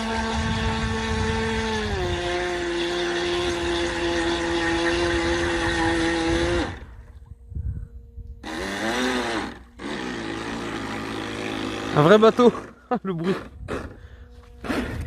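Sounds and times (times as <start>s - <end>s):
high-pitched electric motor whine: 0.0s - 15.0s.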